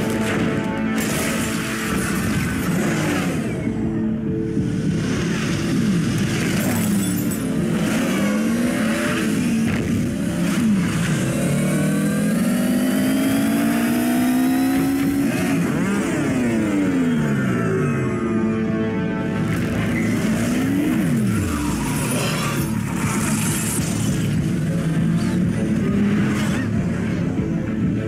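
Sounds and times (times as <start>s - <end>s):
synthesized vehicle engines whining: 0.0s - 28.0s.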